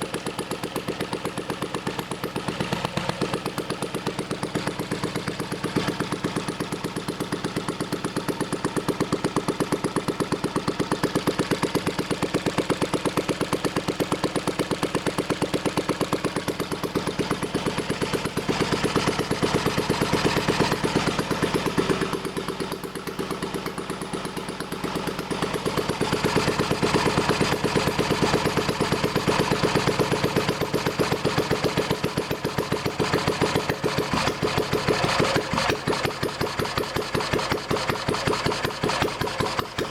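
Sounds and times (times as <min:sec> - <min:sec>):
stationary engine running: 0:00.0 - 0:39.9.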